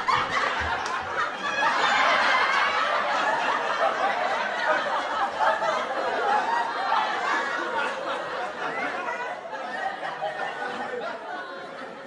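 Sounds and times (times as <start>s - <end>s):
laugh track audience laughter: 0.0s - 12.0s.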